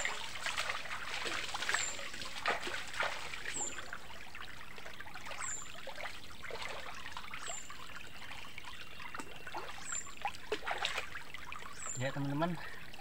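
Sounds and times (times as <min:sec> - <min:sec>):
river trickling over stones: 0:00.0 - 0:13.0.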